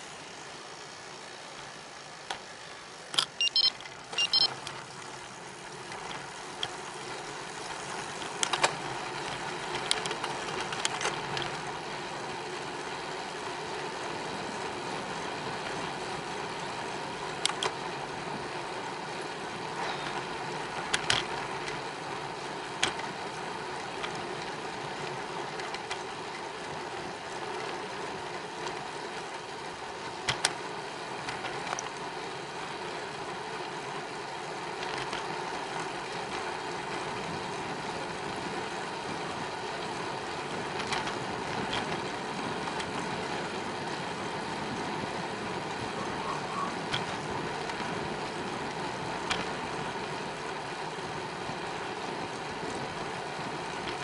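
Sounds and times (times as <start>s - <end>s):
bicycle clicks and rattles: 0.0s - 54.0s
bicycle tyres rolling on pavement: 0.0s - 54.0s.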